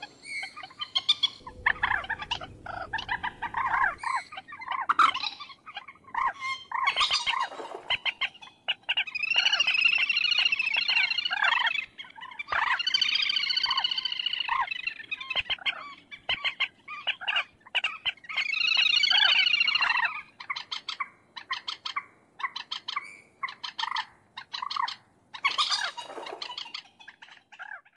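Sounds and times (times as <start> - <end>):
moorhen calling: 0.0 - 27.9.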